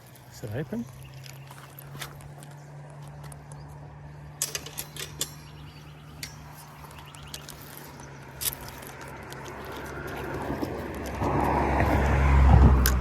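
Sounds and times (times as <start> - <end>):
car approaching: 0.0 - 13.0.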